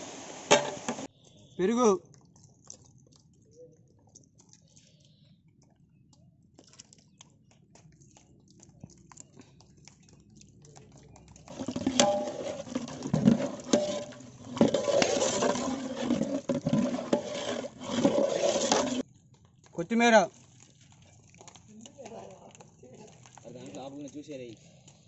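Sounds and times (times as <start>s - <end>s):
wet sloshing and scraping in pot: 0.0s - 25.0s.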